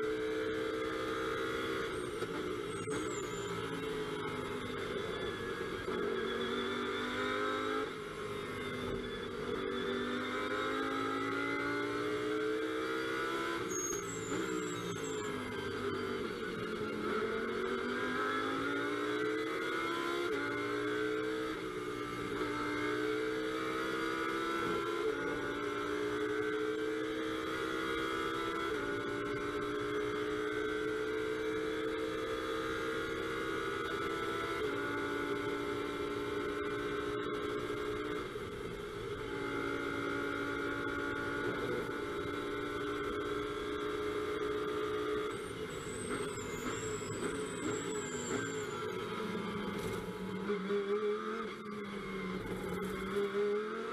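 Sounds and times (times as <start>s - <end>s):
race car engine at full throttle: 0.0s - 53.9s.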